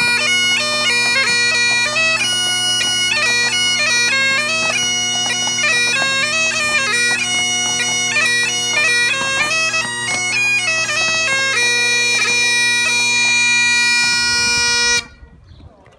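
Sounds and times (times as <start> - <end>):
bagpipe playing lively tune: 0.0 - 15.1.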